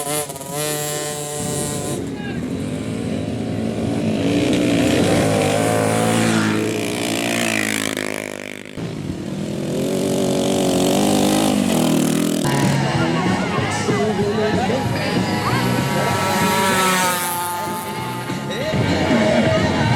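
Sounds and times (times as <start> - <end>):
motorcycle engines revving: 0.0 - 19.9.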